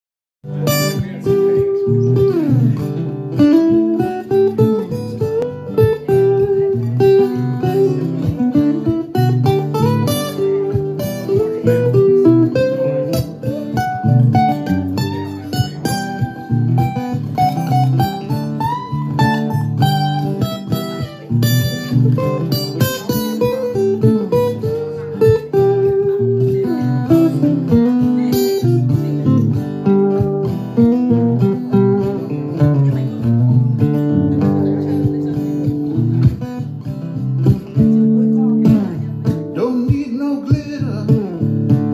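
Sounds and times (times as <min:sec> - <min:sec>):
acoustic guitar picking: 0:00.4 - 0:41.9.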